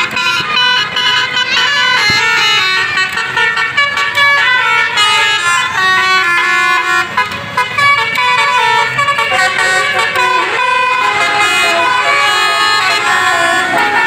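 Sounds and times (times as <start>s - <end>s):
multi-tone air horns melody: 0.0s - 14.0s.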